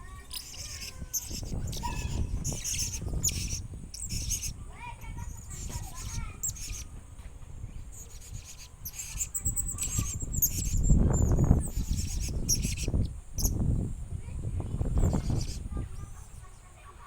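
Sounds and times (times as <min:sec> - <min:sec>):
parrot high-pitched chirps: 0:00.2 - 0:06.9, 0:07.9 - 0:13.6, 0:15.0 - 0:16.4.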